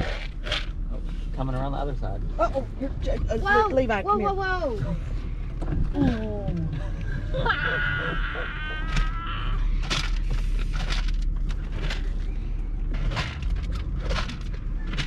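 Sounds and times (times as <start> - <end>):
low rumble of car: 0.0 - 15.0.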